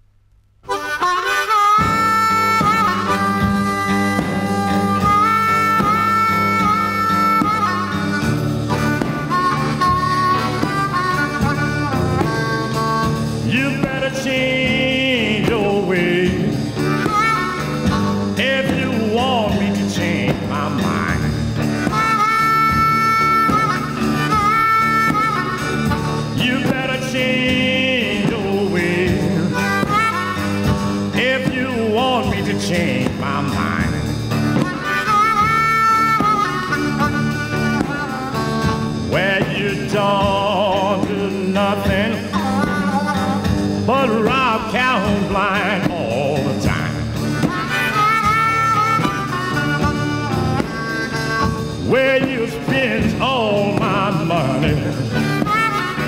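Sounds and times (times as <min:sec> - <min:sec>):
blues record with harmonica: 0:00.0 - 0:56.0.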